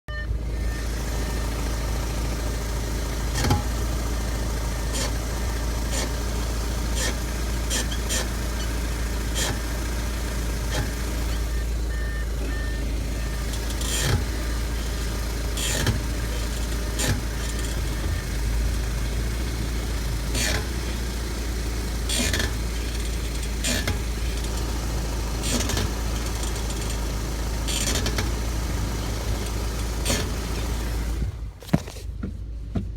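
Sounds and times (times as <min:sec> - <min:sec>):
car engine rumble: 0:00.1 - 0:32.9
brake clicking: 0:00.6 - 0:32.9.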